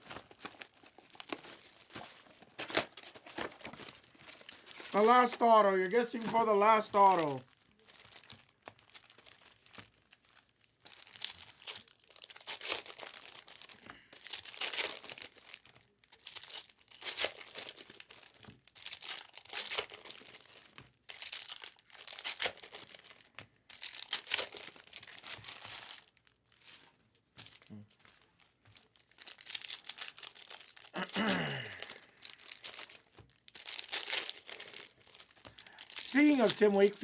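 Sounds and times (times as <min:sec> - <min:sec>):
card pack wrappers crinkling and tearing: 0:00.0 - 0:37.0.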